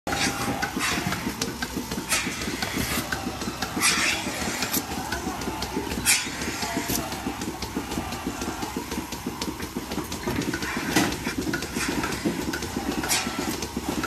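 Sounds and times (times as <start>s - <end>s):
milking machinery pulsing rumble: 0.1s - 14.0s.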